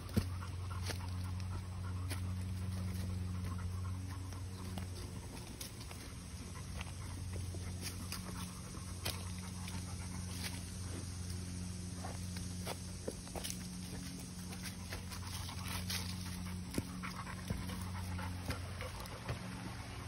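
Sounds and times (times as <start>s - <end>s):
dog panting: 0.0s - 11.0s, 13.8s - 20.0s
footsteps on dry leaves: 0.0s - 19.8s
steady low hum: 0.0s - 20.0s.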